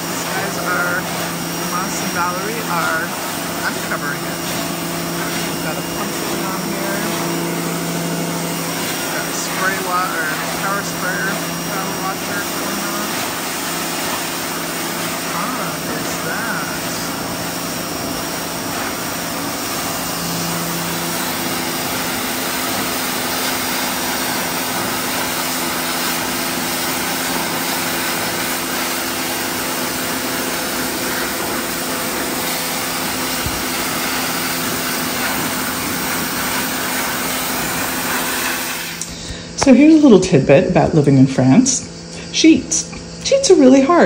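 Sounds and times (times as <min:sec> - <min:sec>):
water jet spraying on stone: 0:00.0 - 0:40.0
pressure washer motor hum: 0:00.0 - 0:44.0.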